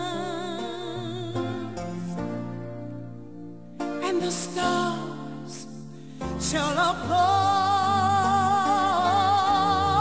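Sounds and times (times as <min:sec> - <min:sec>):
soft slow chord music: 0:00.0 - 0:10.0.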